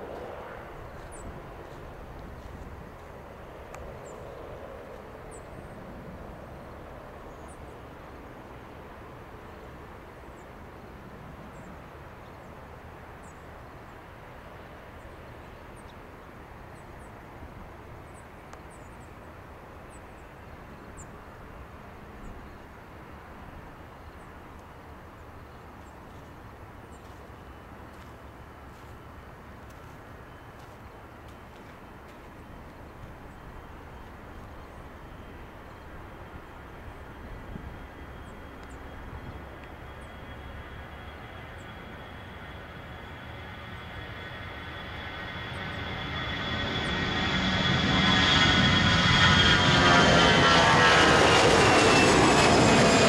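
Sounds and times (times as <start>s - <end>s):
distant airport rumble: 0.0s - 53.0s.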